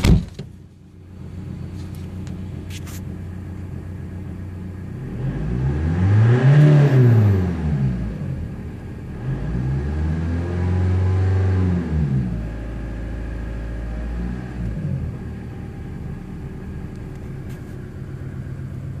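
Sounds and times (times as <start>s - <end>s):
diesel engine revving and idling: 0.6s - 19.0s.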